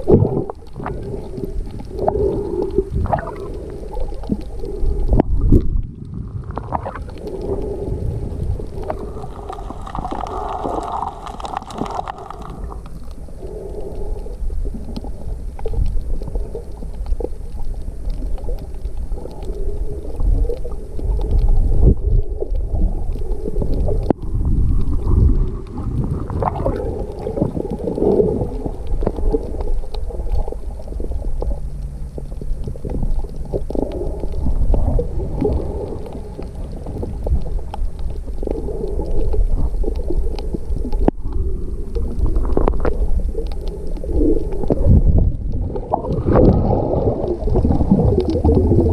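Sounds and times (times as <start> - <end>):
muffled underwater rumble and gurgling: 0.0 - 48.9.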